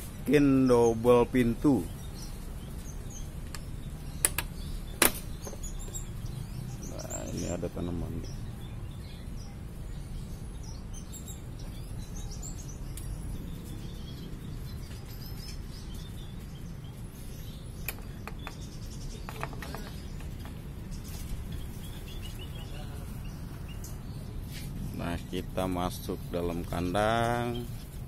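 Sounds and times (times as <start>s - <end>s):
finches chirping: 0.2s - 28.0s.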